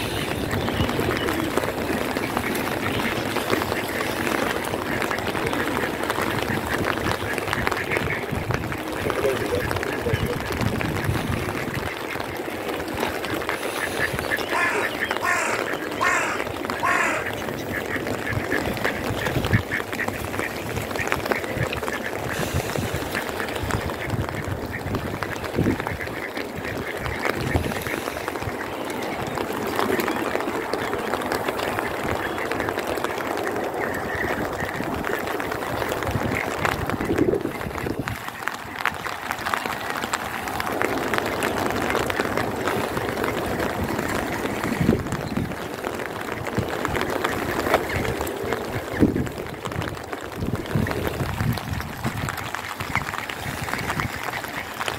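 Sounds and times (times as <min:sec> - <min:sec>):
ducks quacking: 0:00.0 - 0:51.4, 0:52.0 - 0:54.9
heavy rain falling: 0:00.0 - 0:54.9.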